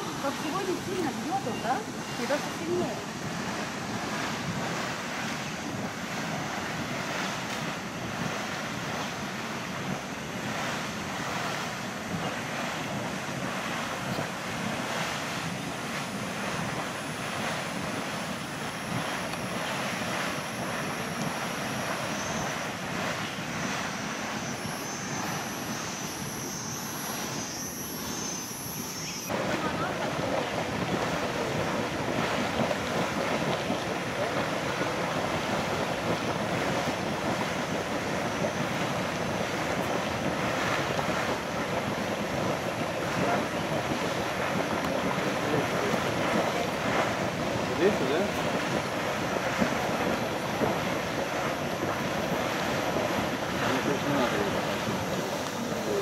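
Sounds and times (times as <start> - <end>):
geyser gushing: 0.0 - 56.0.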